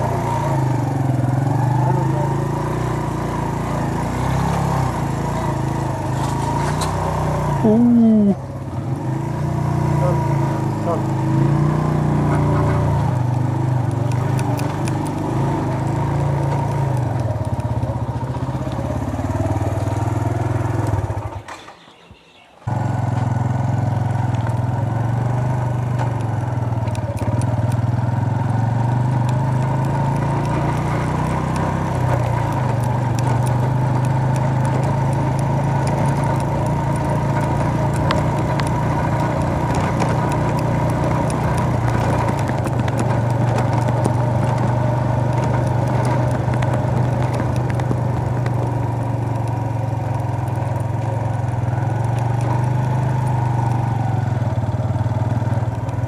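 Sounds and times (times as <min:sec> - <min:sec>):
motorcycle engine running: 0:00.0 - 0:21.7, 0:22.6 - 0:56.0.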